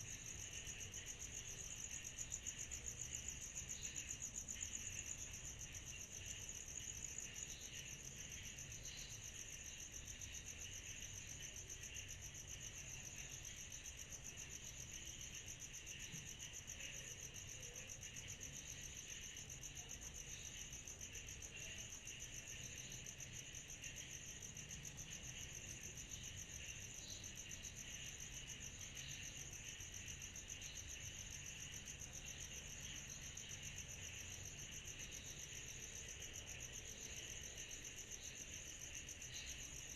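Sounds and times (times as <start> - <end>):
low grainy insect buzz: 0.0 - 39.9.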